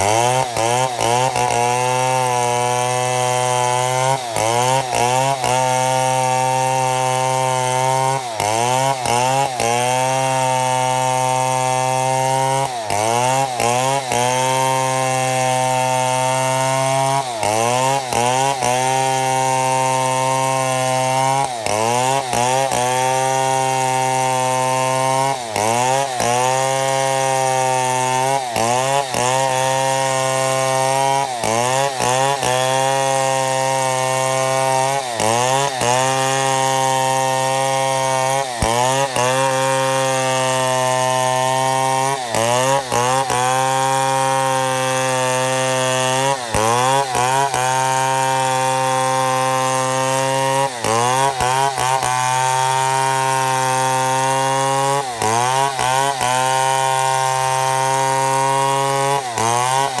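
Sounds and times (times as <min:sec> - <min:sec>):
chainsaw cutting log: 0:00.0 - 1:00.0.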